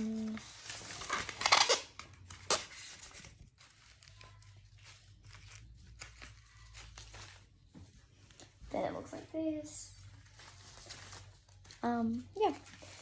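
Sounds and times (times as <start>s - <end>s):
paper crackle: 0.0s - 13.0s
paper wig rustling: 0.0s - 13.0s.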